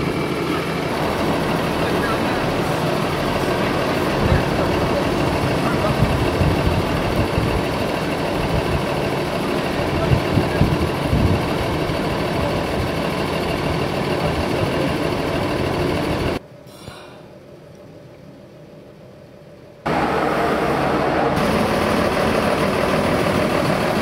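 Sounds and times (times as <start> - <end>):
engine idling: 0.0 - 16.4, 19.8 - 24.0.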